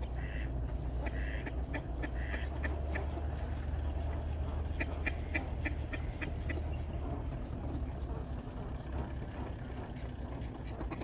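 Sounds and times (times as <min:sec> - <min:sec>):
ducks quacking: 0:00.0 - 0:11.0
steady low rumble: 0:00.0 - 0:11.0.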